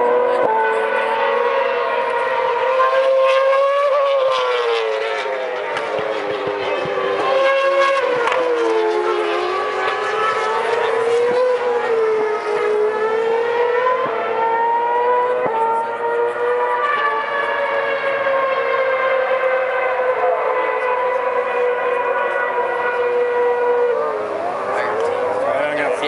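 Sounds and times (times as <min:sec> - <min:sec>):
racing car engines at high revs: 0:00.0 - 0:26.0.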